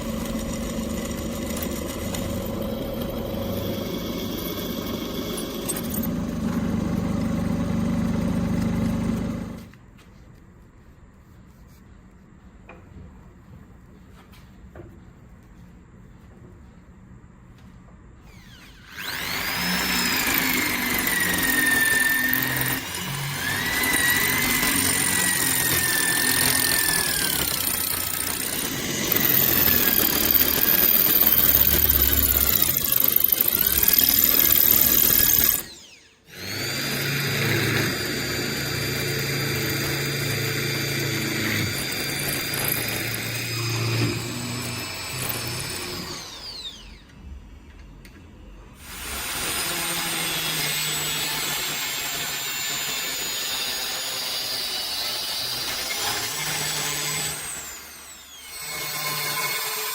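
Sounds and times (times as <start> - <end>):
power tool motor running: 0.0 - 9.7, 18.2 - 47.4, 48.8 - 59.9.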